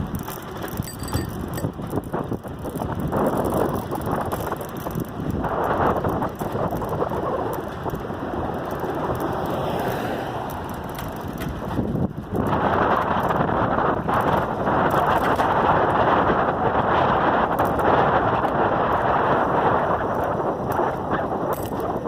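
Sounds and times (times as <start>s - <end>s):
bicycle chain clicking and rattling: 0.0s - 22.0s
rolling tyre noise: 0.0s - 22.0s
wind on microphone: 0.0s - 22.0s.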